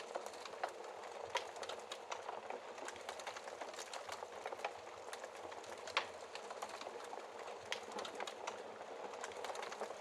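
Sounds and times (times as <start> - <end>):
soft hiss of fire: 0.0 - 10.0
wood fire crackling and popping: 0.0 - 10.0.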